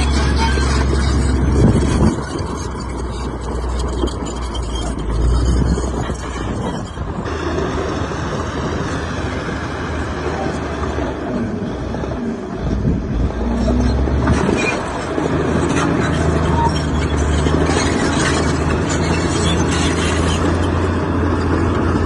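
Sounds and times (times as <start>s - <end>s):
diesel machinery engine rumble: 0.0s - 22.0s.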